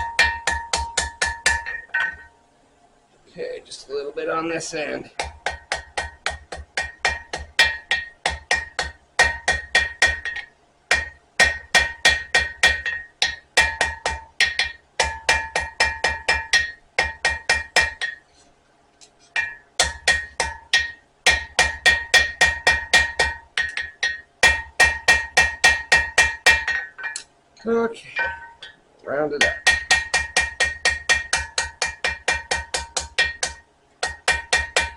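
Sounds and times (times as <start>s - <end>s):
hammer striking steel on anvil: 0.0s - 2.4s, 5.2s - 18.3s, 19.4s - 27.3s, 28.2s - 28.8s, 29.4s - 34.9s.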